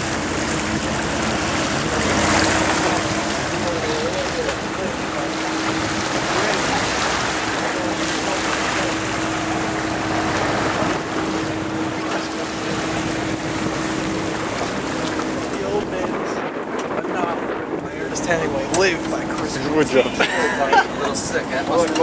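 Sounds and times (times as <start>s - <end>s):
boat engine drone: 0.0s - 22.0s
choppy sea water: 0.0s - 22.0s
wind: 0.0s - 22.0s.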